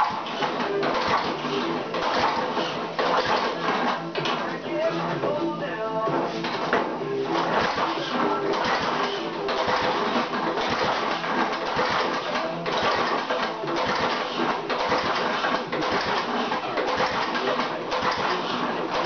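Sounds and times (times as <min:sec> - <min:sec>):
small engine running: 0:00.0 - 0:04.4, 0:06.4 - 0:19.0.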